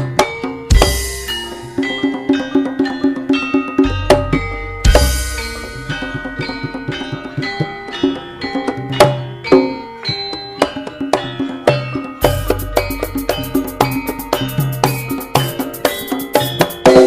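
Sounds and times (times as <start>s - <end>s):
bronze metallophones ringing: 0.0s - 17.0s
hand drum strokes: 0.0s - 17.0s.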